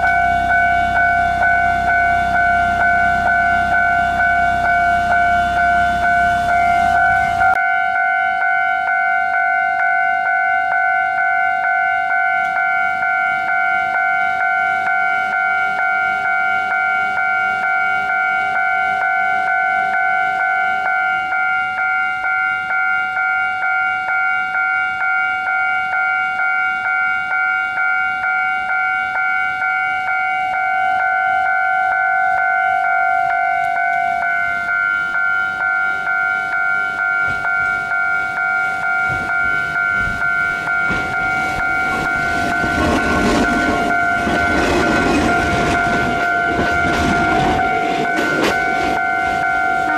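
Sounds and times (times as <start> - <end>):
level crossing bell clanging: 0.0 - 49.9.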